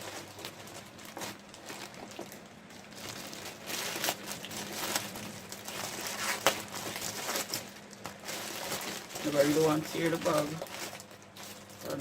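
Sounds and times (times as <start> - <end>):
knife cutting plastic bag: 0.0 - 12.0
plastic bag crinkling: 0.0 - 12.0.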